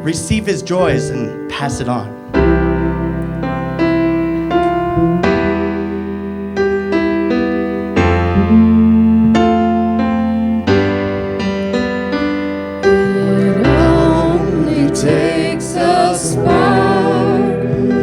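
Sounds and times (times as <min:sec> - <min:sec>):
keyboard playing slow chords: 0:00.0 - 0:18.0.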